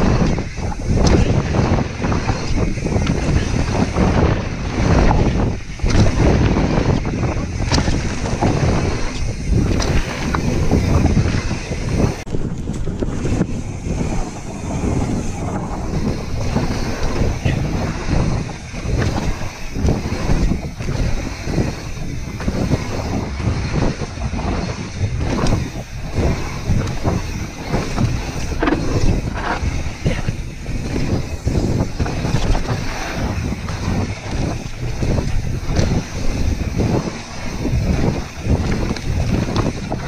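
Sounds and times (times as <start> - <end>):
bike knocks and rattles: 0.0 - 40.0
bike tyres rolling on gravel: 0.0 - 40.0
wind rushing over microphone: 0.0 - 40.0.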